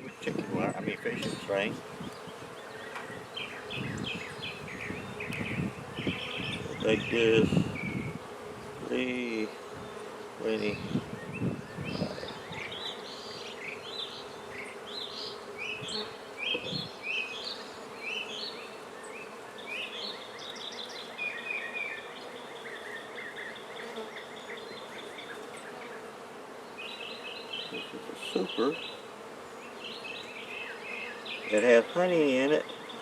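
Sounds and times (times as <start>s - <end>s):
bees humming: 0.0s - 33.0s.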